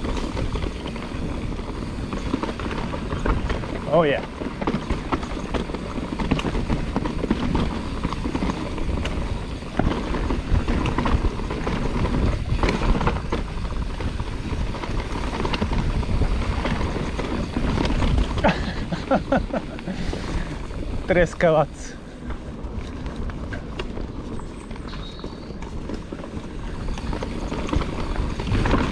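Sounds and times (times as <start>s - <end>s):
bike rattling: 0.0s - 28.9s
tyres rumbling over dirt: 0.0s - 28.9s
wind buffeting camera: 0.0s - 28.9s.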